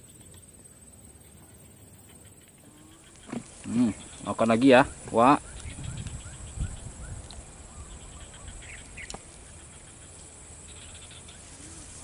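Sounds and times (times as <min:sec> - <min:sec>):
bird chirps: 0:00.0 - 0:12.0
steady high hiss: 0:00.0 - 0:12.0.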